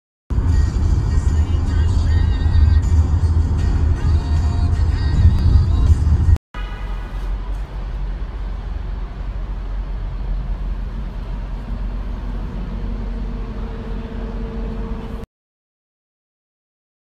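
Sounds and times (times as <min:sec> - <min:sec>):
low hum: 0:00.3 - 0:15.3
road traffic rumble: 0:00.3 - 0:15.3.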